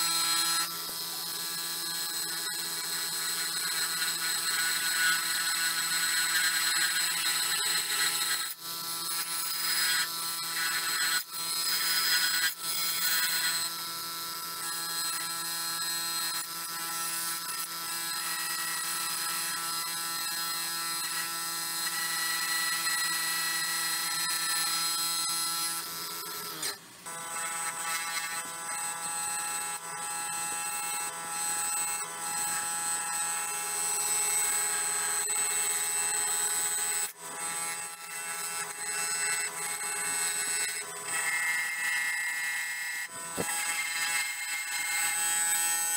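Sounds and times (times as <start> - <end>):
wood lathe whining: 0.0 - 45.9.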